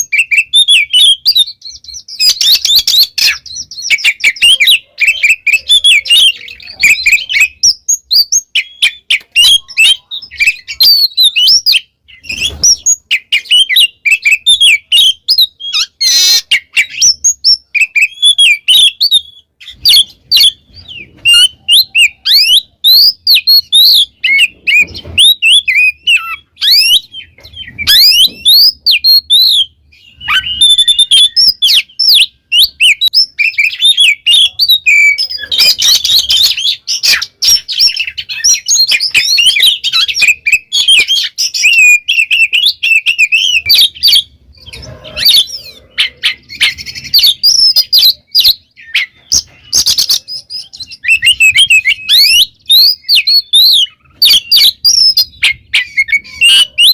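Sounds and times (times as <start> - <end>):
bird singing: 0.0 - 56.9.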